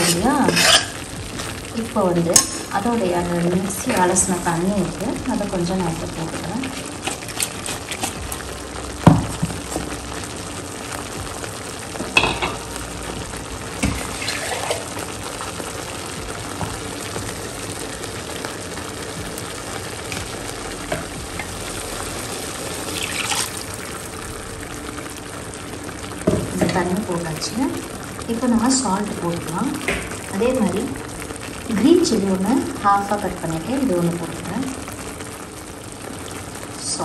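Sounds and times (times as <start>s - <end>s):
water pouring: 0.0s - 36.8s
paste sizzling in a pan: 0.0s - 37.0s.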